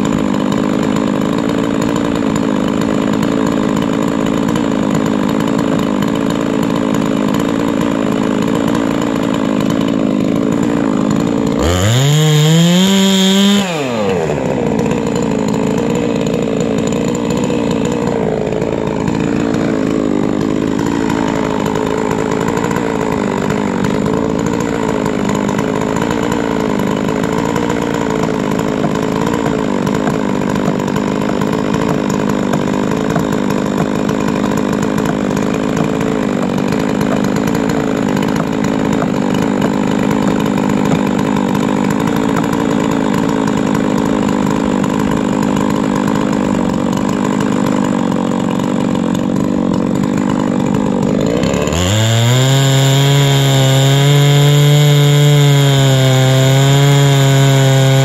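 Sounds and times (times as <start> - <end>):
chainsaw idling: 0.0 - 58.0.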